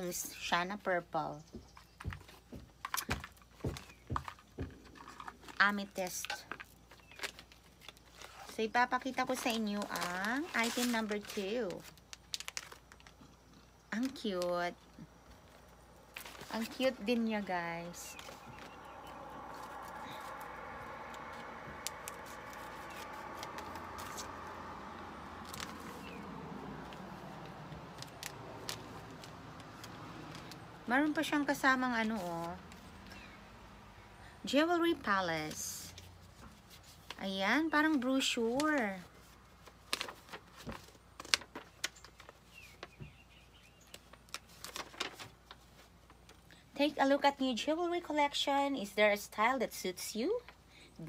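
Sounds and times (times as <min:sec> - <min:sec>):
cardboard and paper crackling: 0:01.6 - 0:33.3, 0:34.5 - 0:46.5.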